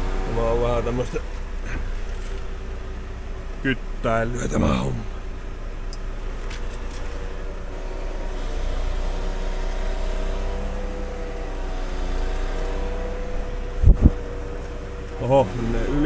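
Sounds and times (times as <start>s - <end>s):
diesel engine drone: 0.0s - 16.0s
hydraulics whining: 0.0s - 16.0s.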